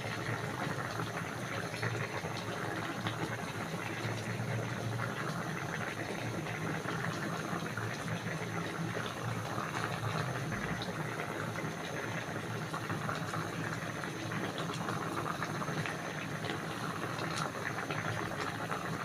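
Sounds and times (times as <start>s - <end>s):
pot boiling with pops and crackles: 0.0s - 19.0s.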